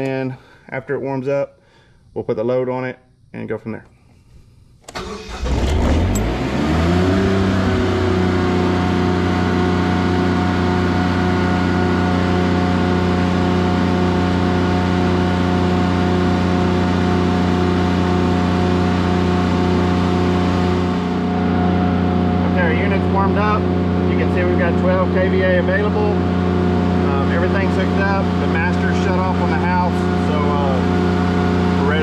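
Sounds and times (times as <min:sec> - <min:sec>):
diesel generator engine running: 0:04.9 - 0:32.0.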